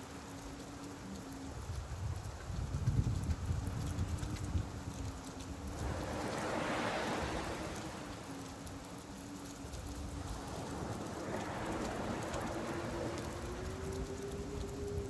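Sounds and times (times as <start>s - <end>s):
faint steady hum: 0.0s - 15.0s
rain pattering on beach: 0.0s - 15.0s
surf washing in: 0.0s - 15.0s.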